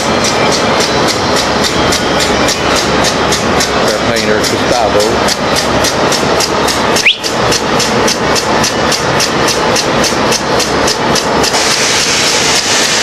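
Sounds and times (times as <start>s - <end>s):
tool tapping on metal: 0.0s - 11.6s
shop machinery hum: 0.0s - 13.0s.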